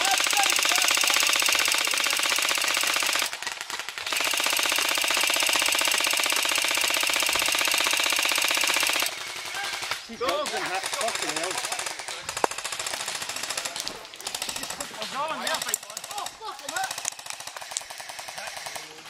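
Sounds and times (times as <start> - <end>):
airsoft gun firing full auto: 0.0 - 19.0.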